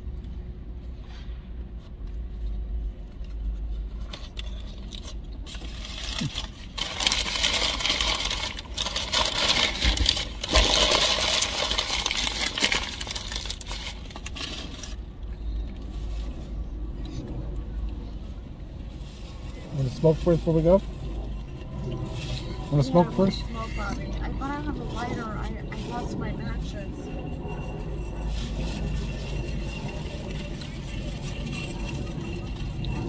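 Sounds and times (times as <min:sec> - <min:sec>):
low steady rumble: 0:00.0 - 0:33.0
objects rustling and clinking: 0:03.1 - 0:17.2, 0:18.9 - 0:26.2, 0:27.7 - 0:33.0.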